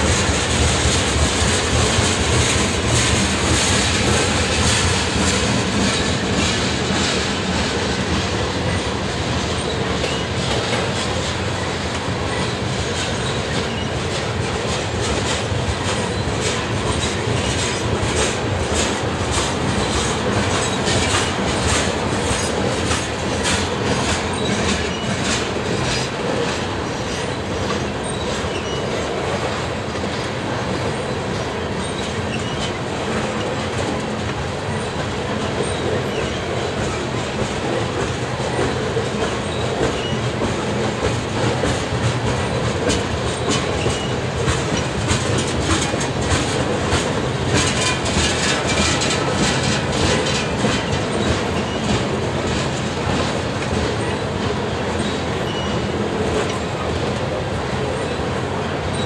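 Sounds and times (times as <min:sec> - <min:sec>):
steel wheels rumbling on rail: 0:00.0 - 0:59.0
wheels clicking over rail joints: 0:00.0 - 0:59.0.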